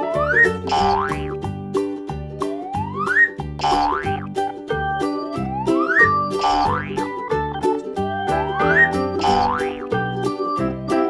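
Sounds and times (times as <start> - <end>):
bouncy children's music: 0.0 - 11.0.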